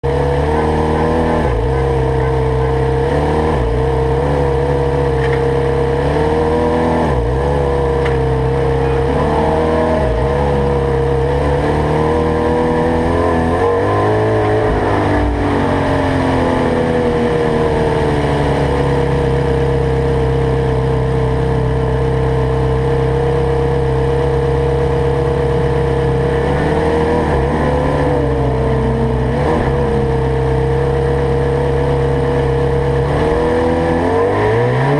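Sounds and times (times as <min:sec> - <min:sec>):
sports car engine accelerating: 0:00.0 - 0:34.9.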